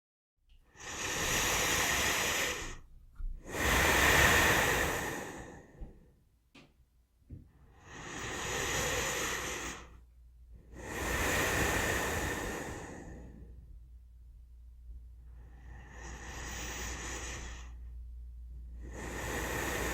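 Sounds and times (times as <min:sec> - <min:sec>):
person breathing slowly: 0:00.7 - 0:06.2, 0:07.5 - 0:13.8, 0:15.2 - 0:19.9.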